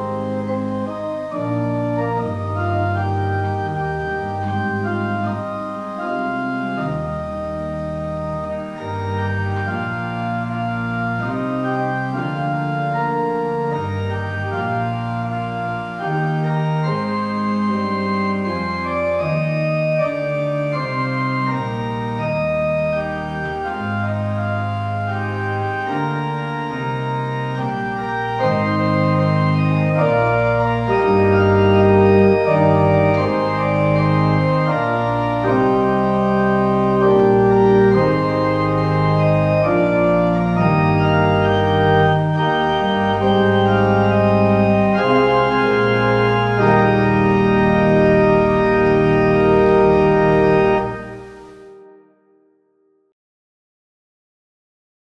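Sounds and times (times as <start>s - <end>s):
organ playing chords: 0.0s - 52.4s.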